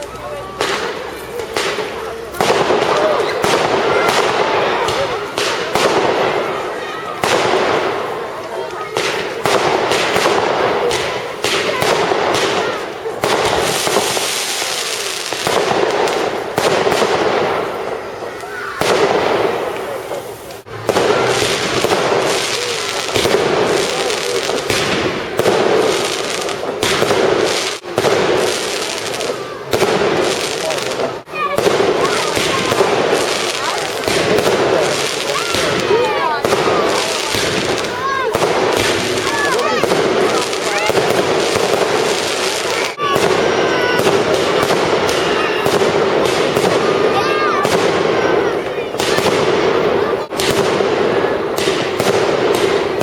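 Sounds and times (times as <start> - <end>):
fireworks crackling and banging: 0.0 - 53.0.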